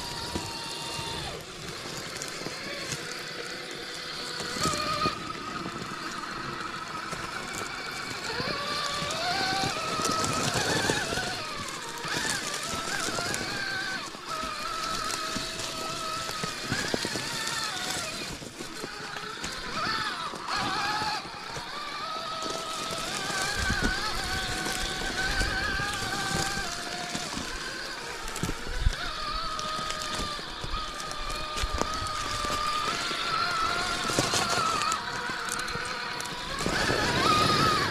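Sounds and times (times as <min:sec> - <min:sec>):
toy car electric motor whining: 0:00.0 - 0:37.9.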